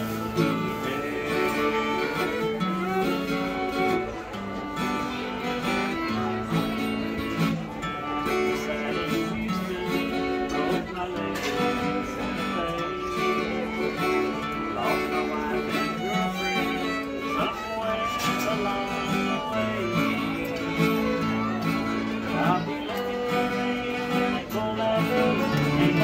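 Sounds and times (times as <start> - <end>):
fiddle melody: 0.0 - 26.0
guitar accompaniment: 0.0 - 26.0.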